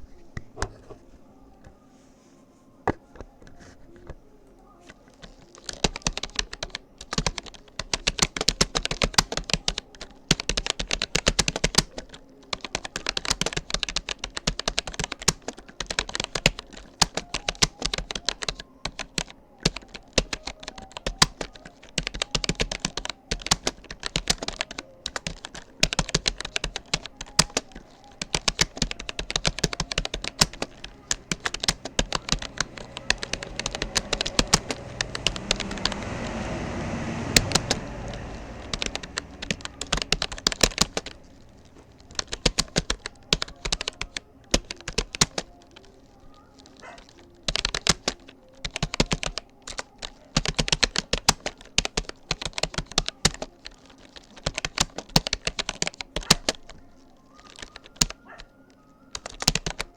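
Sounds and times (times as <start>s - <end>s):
computer keyboard typing: 4.9s - 58.5s, 59.1s - 59.9s.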